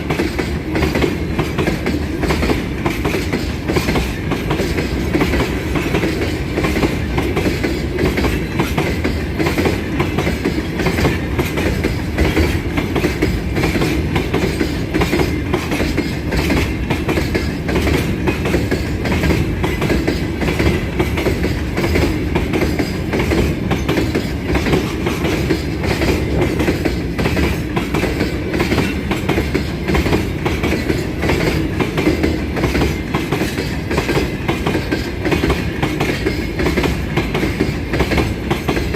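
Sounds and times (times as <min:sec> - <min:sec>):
freight train rumbling past: 0:00.0 - 0:38.9
wheels clicking over rail joints: 0:00.0 - 0:38.9.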